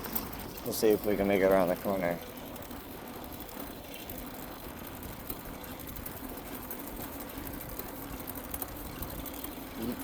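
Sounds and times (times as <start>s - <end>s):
bike mechanical whir: 0.0s - 10.0s.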